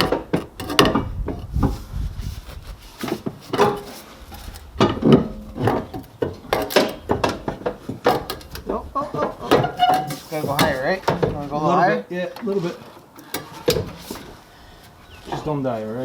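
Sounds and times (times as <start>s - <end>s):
exhaust pipe clunking and scraping: 0.0s - 15.7s.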